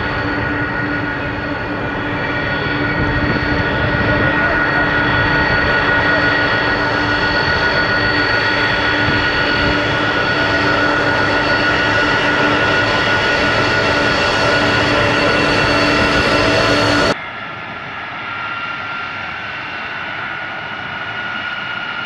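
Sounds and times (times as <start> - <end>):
jet engines roaring and whining: 0.0 - 22.0.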